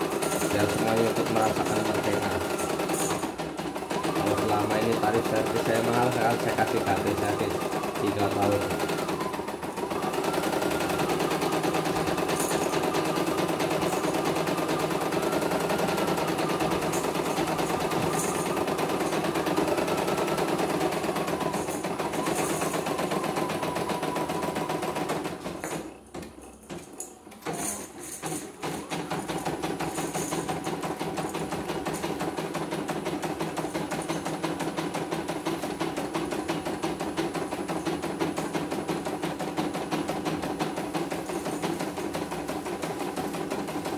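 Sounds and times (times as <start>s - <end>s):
embroidery machine stitching: 0.0s - 43.9s.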